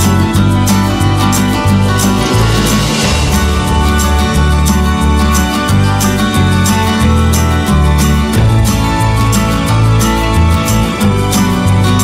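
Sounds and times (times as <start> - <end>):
background music with steady beat: 0.0 - 12.0
sustained bass line: 0.0 - 12.0.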